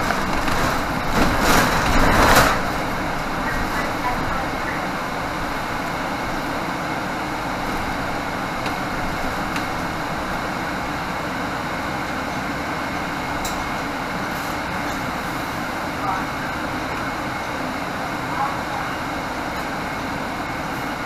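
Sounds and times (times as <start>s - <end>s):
bus engine and road noise: 0.0s - 21.0s.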